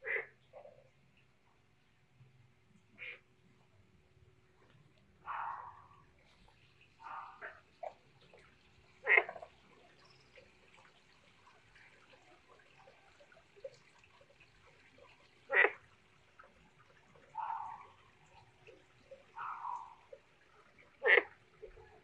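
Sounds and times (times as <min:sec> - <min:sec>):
pond fountain bubbling: 0:00.0 - 0:22.0.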